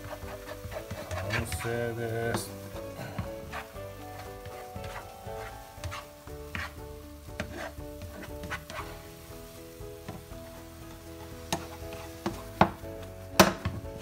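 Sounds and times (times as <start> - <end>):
spatula scraping a pan: 0.0 - 12.8
background music with held tones: 0.0 - 14.0
food sizzling in a frying pan: 0.0 - 14.0.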